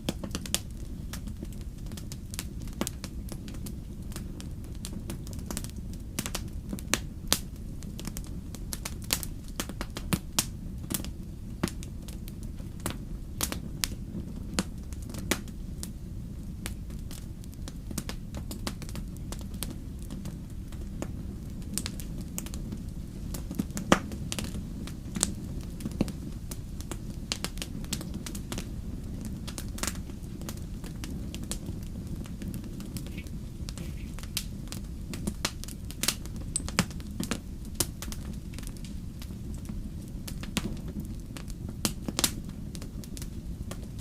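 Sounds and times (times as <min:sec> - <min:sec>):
steady low rumble: 0:00.0 - 0:44.0
wood fire crackling: 0:00.0 - 0:44.0.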